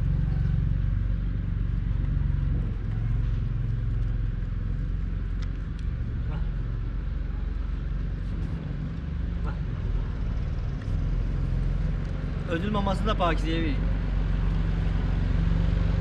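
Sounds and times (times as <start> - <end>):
engine low hum: 0.0 - 16.0.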